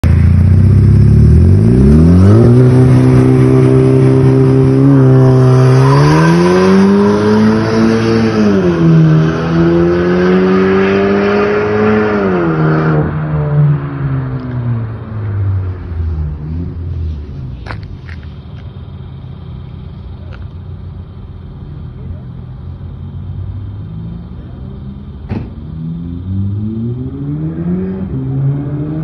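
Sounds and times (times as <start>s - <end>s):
car engine revving and accelerating: 0.2s - 18.0s, 22.7s - 29.0s.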